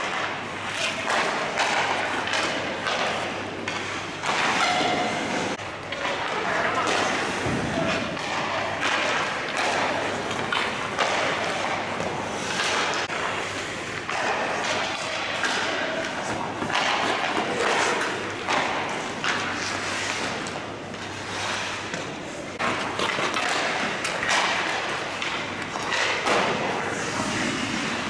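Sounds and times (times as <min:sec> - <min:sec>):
puck and stick thuds: 0:00.0 - 0:28.0
skates scraping ice: 0:00.0 - 0:28.0.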